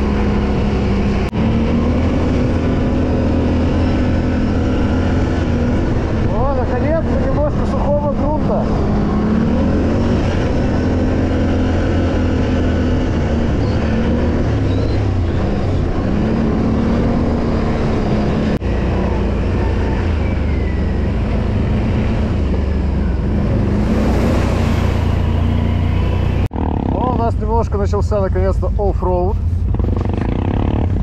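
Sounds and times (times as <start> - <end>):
quad bike engine revving: 0.0 - 27.5, 29.7 - 31.0.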